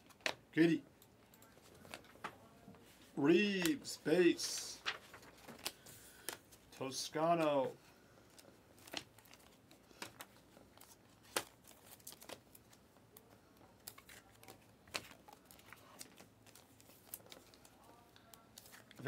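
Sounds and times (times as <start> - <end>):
trading cards being handled: 0.0 - 19.0.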